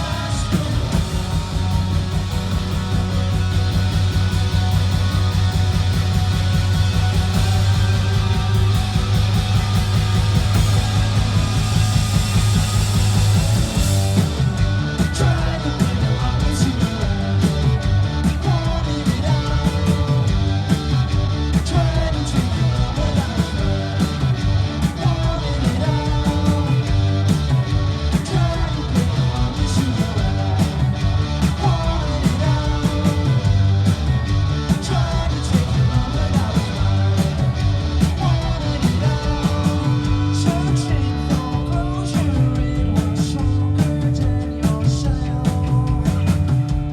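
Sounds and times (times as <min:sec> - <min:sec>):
punk band playing live: 0:00.0 - 0:46.9.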